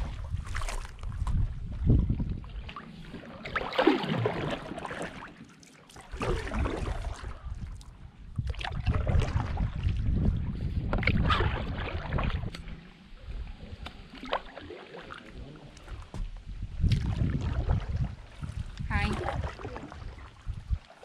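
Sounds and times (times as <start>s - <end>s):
wind rumble on microphone: 0.0s - 3.6s, 6.1s - 21.0s
paddle splashing in water: 0.0s - 21.0s.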